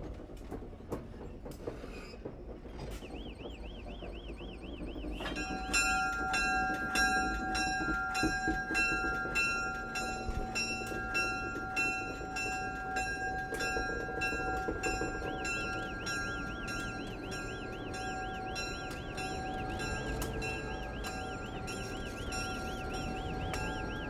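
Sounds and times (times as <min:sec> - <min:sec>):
train rumble: 0:00.0 - 0:24.0
locomotive bell ringing: 0:03.5 - 0:24.0.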